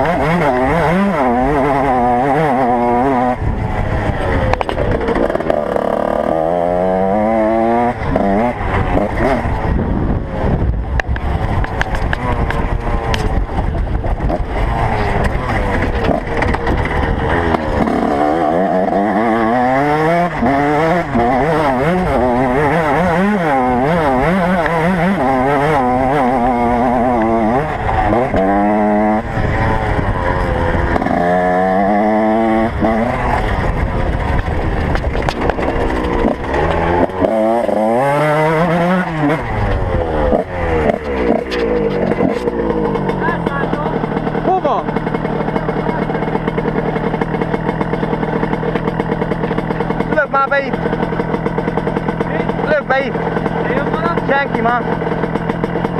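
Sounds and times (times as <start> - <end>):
motocross bikes revving: 0.0 - 55.9.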